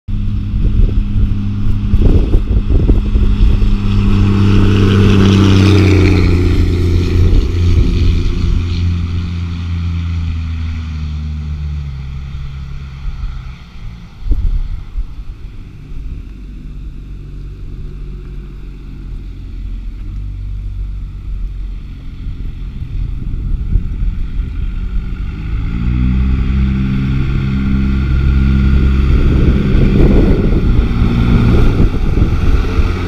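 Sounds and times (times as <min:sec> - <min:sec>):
diesel engine driving past: 0:00.1 - 0:33.0.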